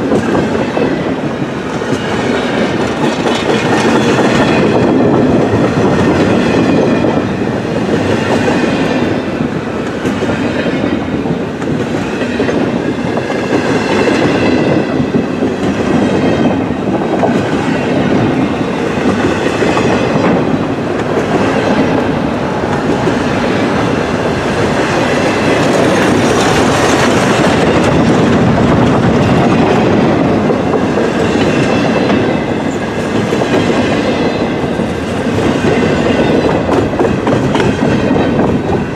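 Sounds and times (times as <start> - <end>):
freight train wheels rolling on rails: 0.0 - 38.9.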